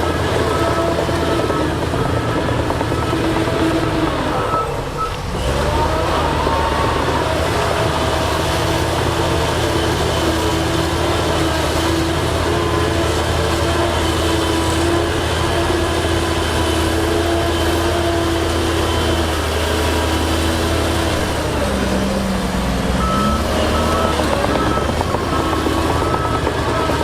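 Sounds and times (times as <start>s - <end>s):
heavy diesel engine droning: 0.0s - 27.0s.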